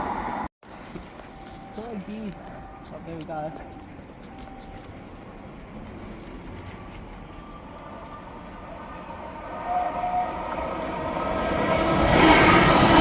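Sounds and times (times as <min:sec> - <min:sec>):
electric train approaching: 0:01.2 - 0:13.0.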